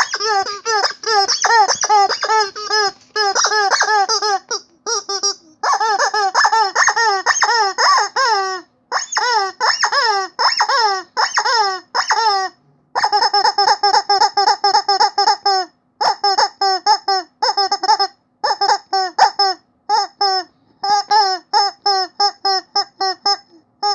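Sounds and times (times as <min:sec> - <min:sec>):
squeaky toy squeaking: 0:00.0 - 0:23.9.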